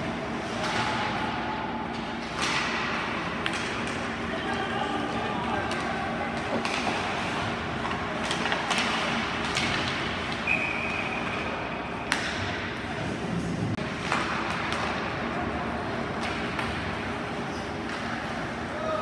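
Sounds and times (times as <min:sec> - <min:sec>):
hockey sticks knocking puck: 0:00.4 - 0:12.7, 0:13.8 - 0:18.6.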